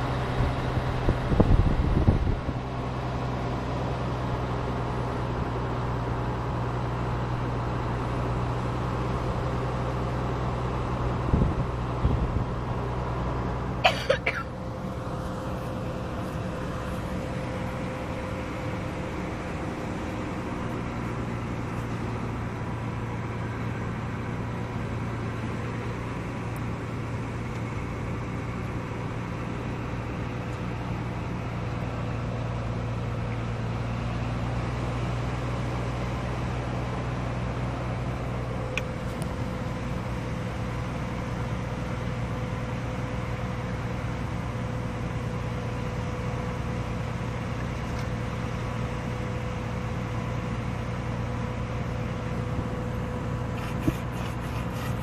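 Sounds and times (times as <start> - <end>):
motor running steadily: 0.0 - 55.0.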